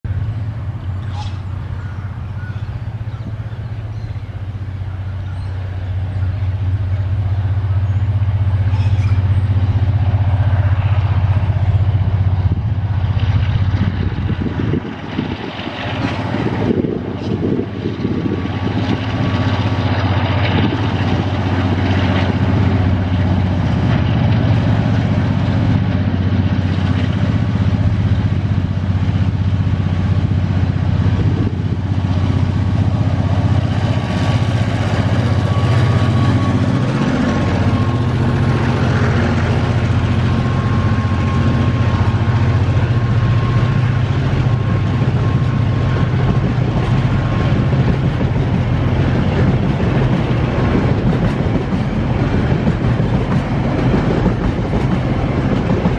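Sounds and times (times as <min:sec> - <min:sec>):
heavy rough train rumble: 0:00.0 - 0:55.9
locomotive engines droning: 0:00.0 - 0:55.9.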